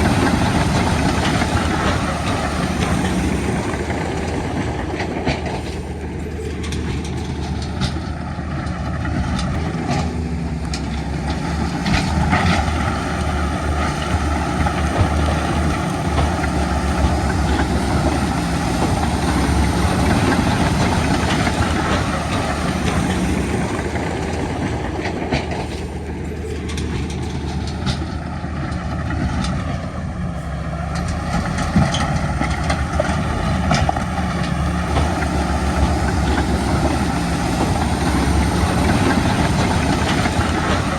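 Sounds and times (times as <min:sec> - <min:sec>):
heavy diesel machinery running: 0:00.0 - 0:40.9.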